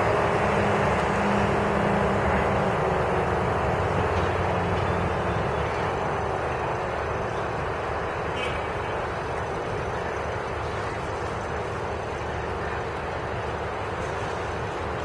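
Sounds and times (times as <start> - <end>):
diesel train engine hum: 0.0 - 15.0.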